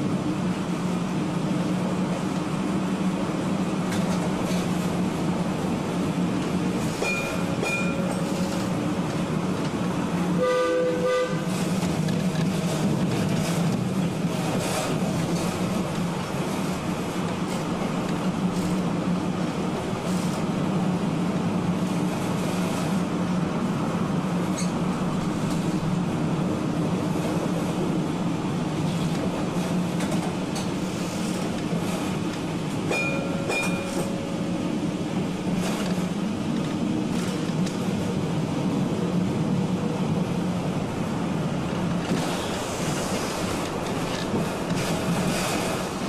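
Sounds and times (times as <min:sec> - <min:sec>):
streetcar wheels and motors rumbling: 0:00.0 - 0:46.0.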